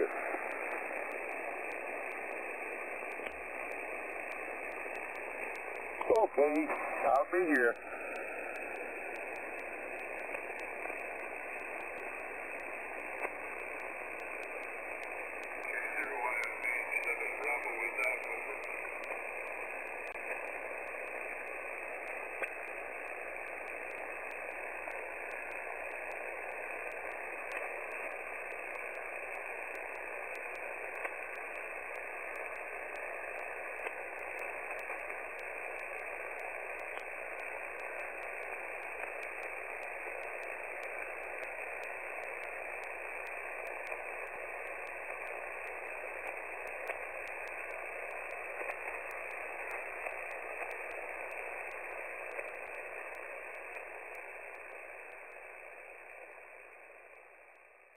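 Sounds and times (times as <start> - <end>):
faint clicks: 0.0 - 54.6
radio static hiss: 0.0 - 57.9.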